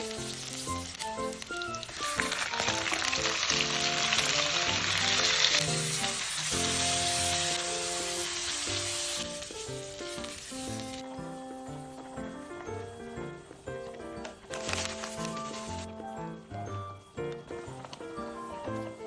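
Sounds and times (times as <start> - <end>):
background music: 0.0 - 19.0
food sizzling in frying: 0.0 - 19.0.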